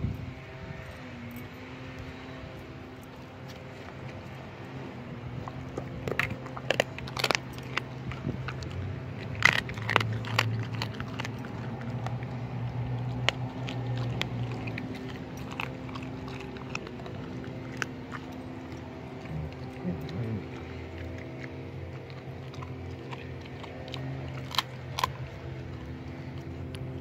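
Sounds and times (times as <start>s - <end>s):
dog chewing bones: 0.2s - 27.0s.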